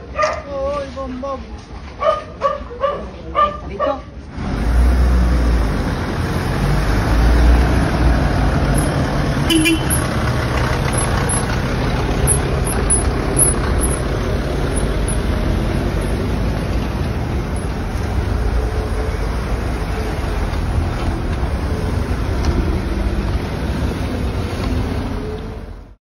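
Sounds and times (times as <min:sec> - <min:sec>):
vehicle engine rumble: 0:04.1 - 0:26.0.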